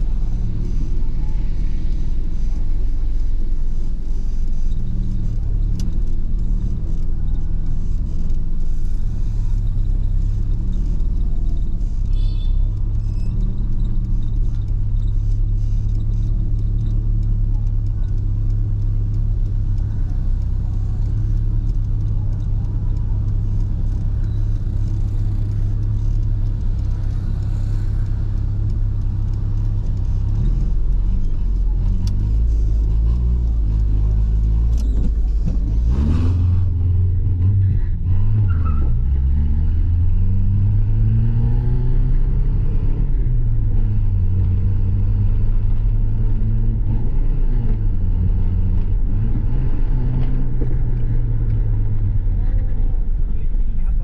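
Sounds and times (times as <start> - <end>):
car engine running and revving: 0.0 - 54.0.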